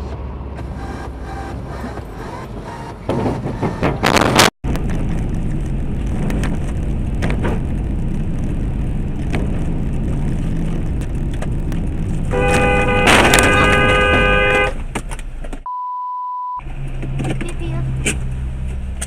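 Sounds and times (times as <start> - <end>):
car driving rumble: 0.0 - 15.7, 16.6 - 19.0.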